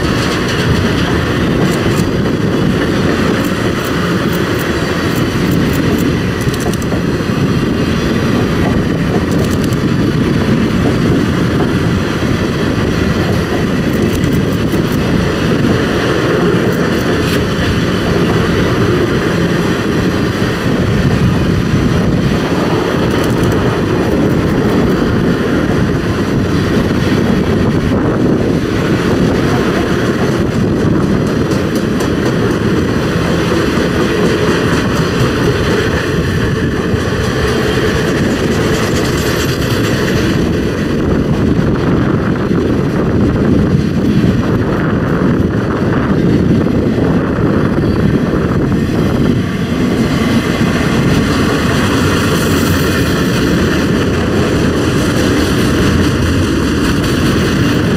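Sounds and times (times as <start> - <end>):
steel wheels rumbling on rails: 0.0 - 57.9.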